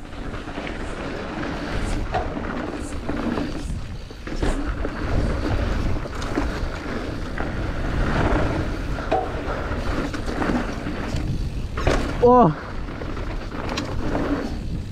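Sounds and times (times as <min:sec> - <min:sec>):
bike knocks and rattles: 0:00.0 - 0:14.9
tyres rolling on dirt: 0:00.0 - 0:14.9
wind rushing over microphone: 0:00.0 - 0:14.9.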